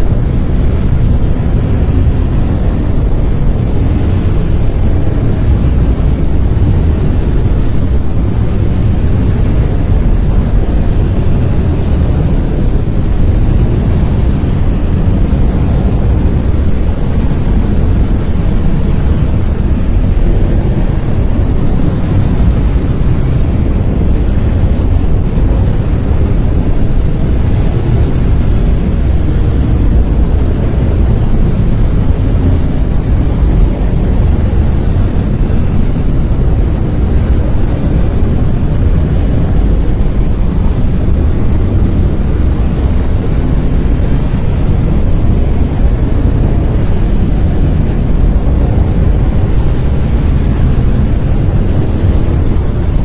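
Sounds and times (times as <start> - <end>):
brown noise rumbling hiss: 0.0 - 53.0.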